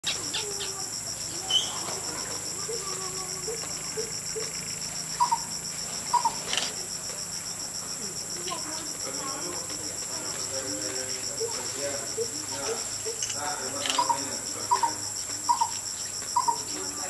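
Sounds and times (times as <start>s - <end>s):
insects chorus pulsing: 0.0s - 17.0s.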